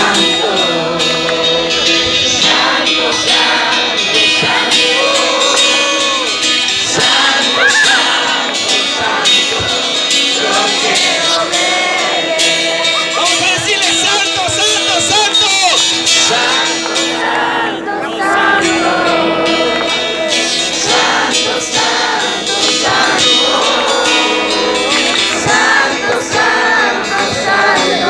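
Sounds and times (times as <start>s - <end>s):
group singing worship song: 0.0s - 28.0s
instrumental accompaniment: 0.0s - 28.0s.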